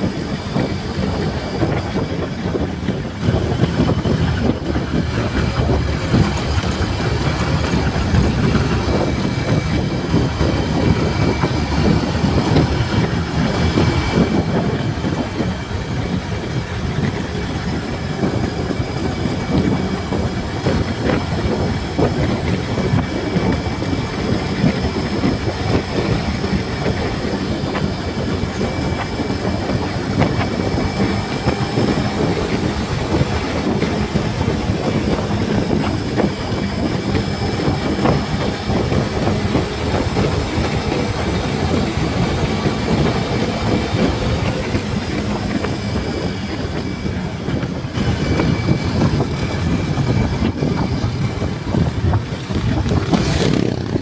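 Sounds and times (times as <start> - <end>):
motorcycle road rumble: 0.0 - 54.0
wind buffeting microphone: 0.0 - 54.0.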